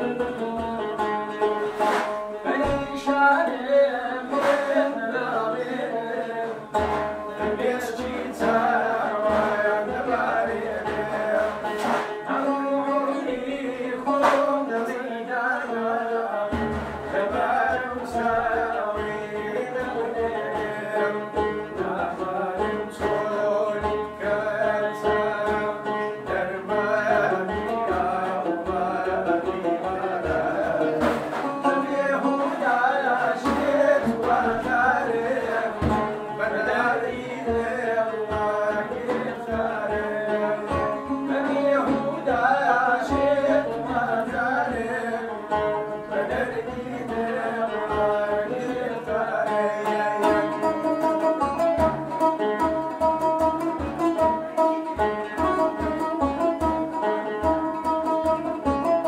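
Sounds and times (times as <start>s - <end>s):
man singing folk song: 0.0s - 59.0s
plucked lute melody: 0.0s - 59.0s.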